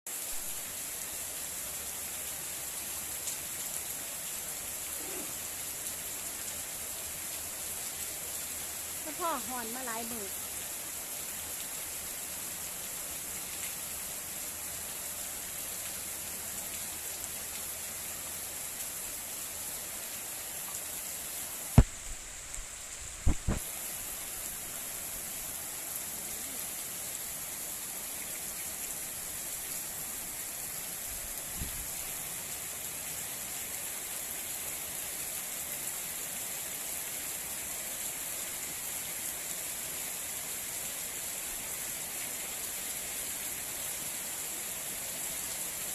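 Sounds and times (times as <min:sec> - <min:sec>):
heavy rain hissing: 0:00.1 - 0:45.9.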